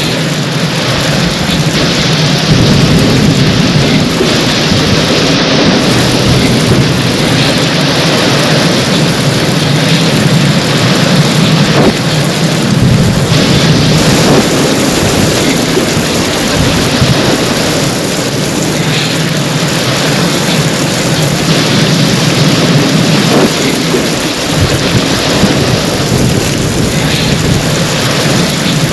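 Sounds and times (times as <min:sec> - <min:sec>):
heavy rain falling: 0:00.0 - 0:28.9
low thunder rumble: 0:00.0 - 0:28.9.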